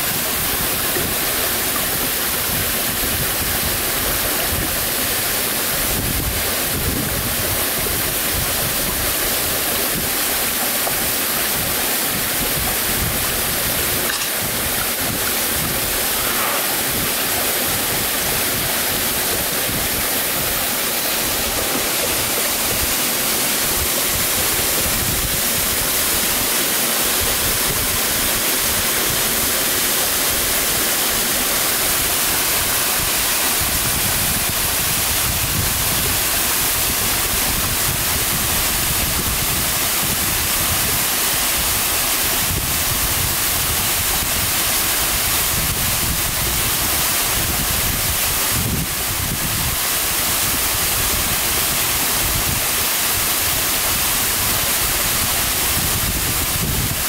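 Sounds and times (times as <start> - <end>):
stream running over rocks: 0.0 - 57.0
waterfall rushing: 0.0 - 57.0.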